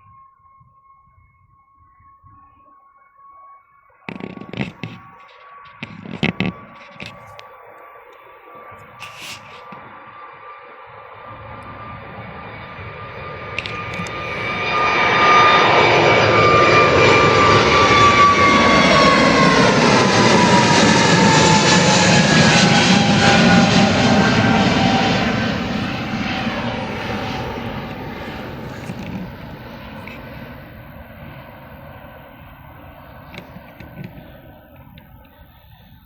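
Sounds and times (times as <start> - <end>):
jet engines at takeoff: 4.1 - 36.0
whining engine tone: 4.1 - 36.0.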